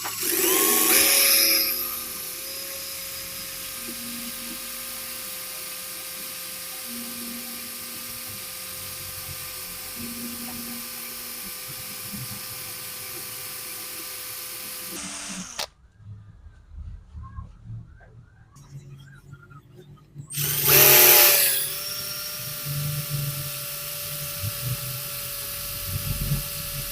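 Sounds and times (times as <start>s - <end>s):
angle grinder whining: 0.0s - 15.7s, 20.3s - 26.9s.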